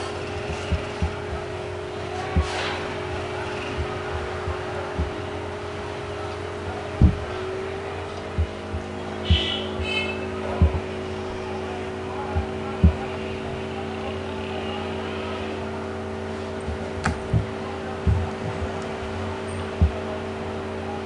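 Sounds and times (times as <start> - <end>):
soft low thumps: 0.0 - 13.9, 16.3 - 20.3
computer fan hum: 0.0 - 21.0.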